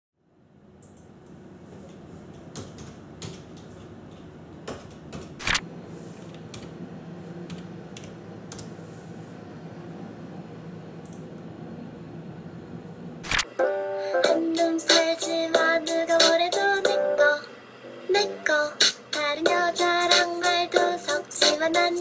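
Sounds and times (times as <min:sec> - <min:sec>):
steady low hum: 0:00.2 - 0:22.0.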